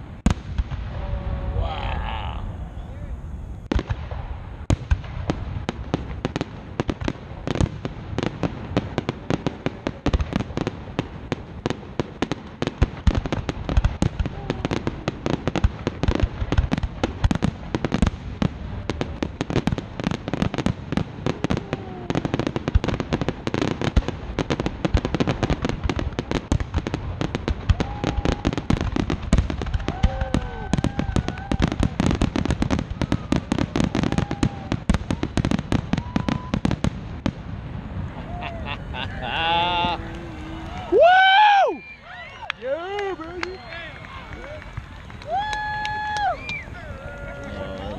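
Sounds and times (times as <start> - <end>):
fireworks bursting: 0.0 - 1.6, 3.0 - 47.9.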